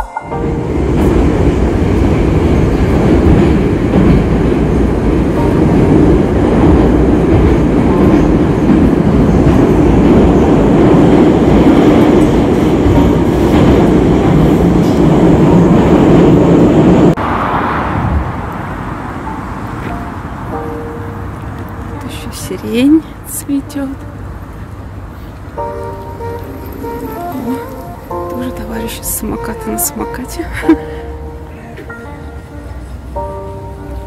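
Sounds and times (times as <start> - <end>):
metro train running: 0.0 - 34.0.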